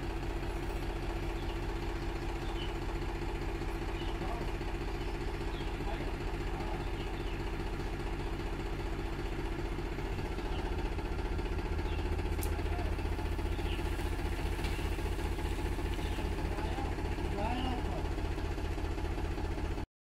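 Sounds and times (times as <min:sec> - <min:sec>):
tractor engine running: 0:00.0 - 0:19.8.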